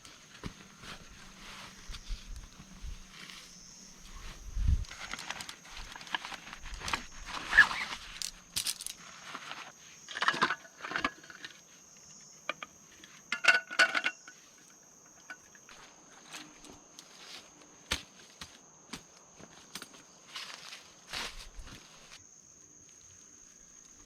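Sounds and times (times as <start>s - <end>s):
camping gear rustling: 0.0s - 24.0s
high insect drone: 0.0s - 24.0s.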